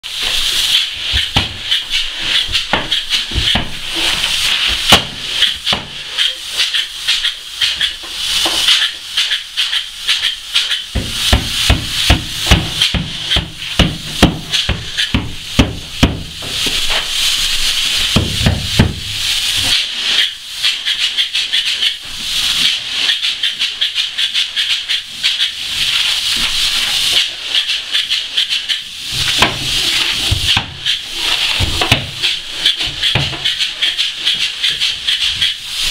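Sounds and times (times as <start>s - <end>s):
spray foam gun hissing: 0.1s - 35.9s.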